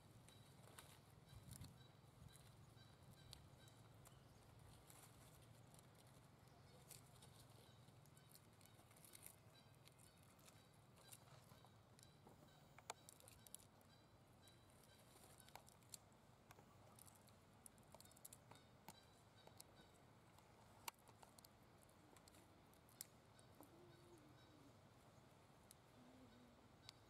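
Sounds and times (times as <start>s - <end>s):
small clicks and crackles: 0.2s - 24.1s.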